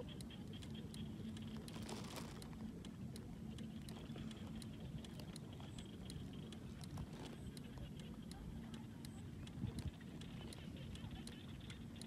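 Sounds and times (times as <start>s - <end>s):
faint continuous hum: 0.0s - 12.0s.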